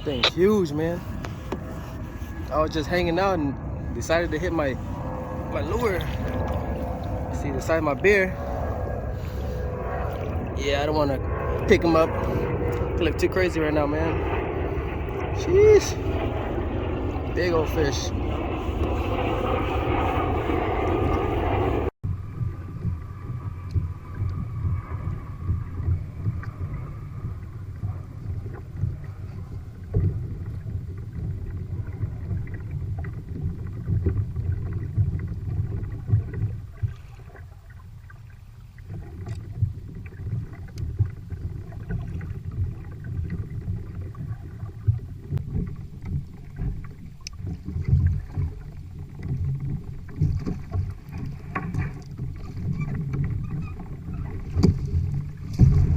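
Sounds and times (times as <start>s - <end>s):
wind and water rumble: 0.0s - 55.9s.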